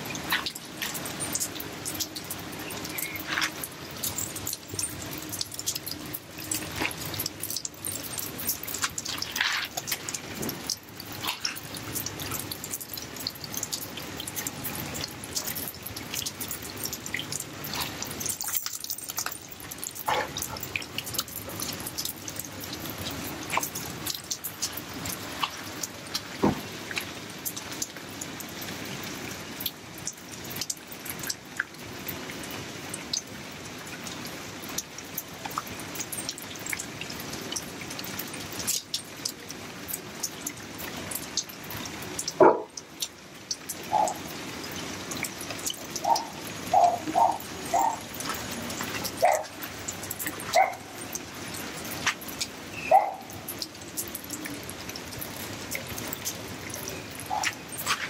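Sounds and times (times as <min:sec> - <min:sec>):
rain dripping on concrete: 0:00.0 - 0:58.0.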